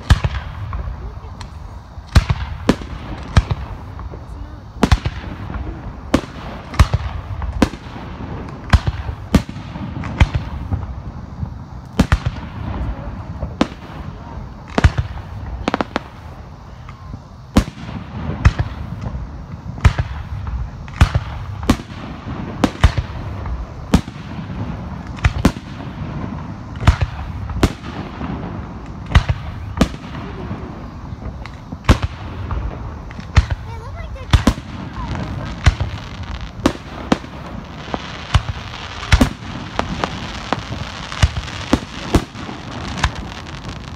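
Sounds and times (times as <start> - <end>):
firework shells bursting: 0.0 - 43.9.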